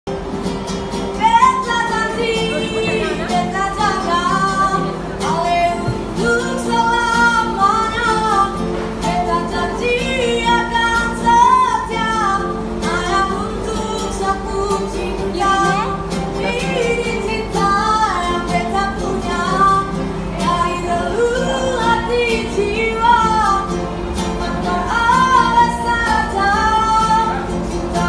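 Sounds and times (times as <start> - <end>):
instrumental accompaniment: 0.1 - 28.0
person singing: 1.2 - 23.7.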